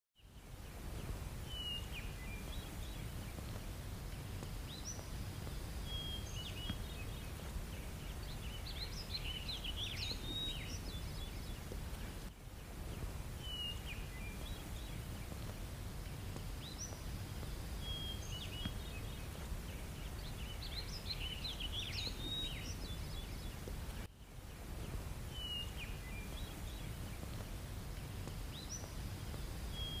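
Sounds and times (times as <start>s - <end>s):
small birds chirping: 0.2s - 30.0s
steady low rumble: 0.4s - 30.0s.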